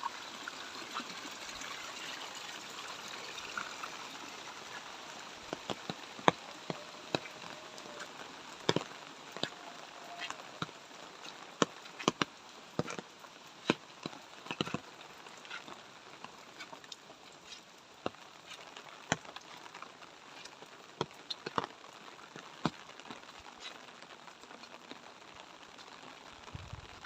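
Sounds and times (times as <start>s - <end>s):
light rain hiss: 0.0s - 27.0s
rain drops hitting: 0.0s - 27.0s.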